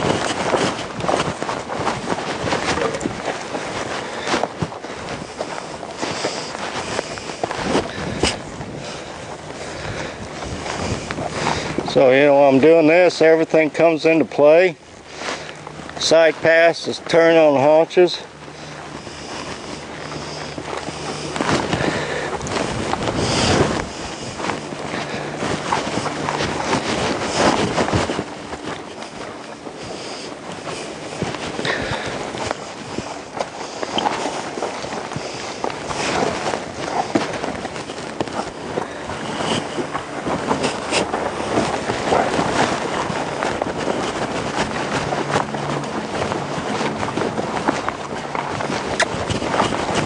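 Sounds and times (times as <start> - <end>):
horse hooves on sand: 0.0 - 50.0
wind buffeting microphone: 0.0 - 50.0.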